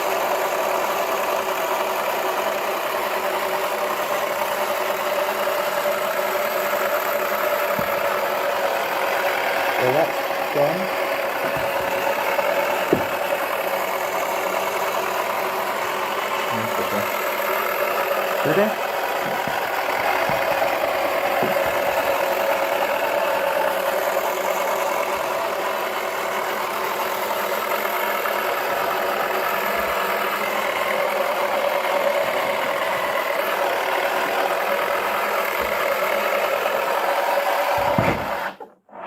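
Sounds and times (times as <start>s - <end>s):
small electric motor humming: 0.0s - 38.6s.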